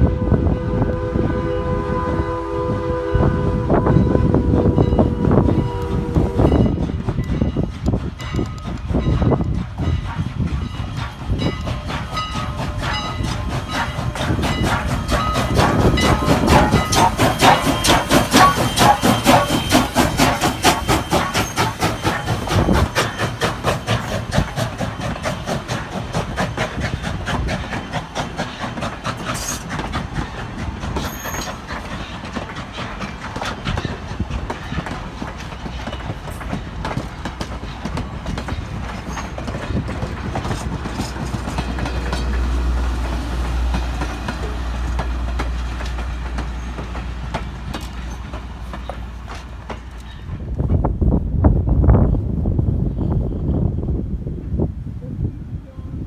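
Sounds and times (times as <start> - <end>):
wind buffeting microphone: 0.0 - 56.0
train wheels clicking over rail joints: 4.0 - 51.0.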